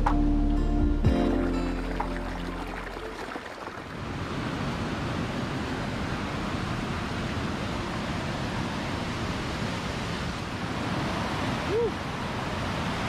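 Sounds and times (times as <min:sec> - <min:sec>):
river rushing over rapids: 0:01.7 - 0:13.0.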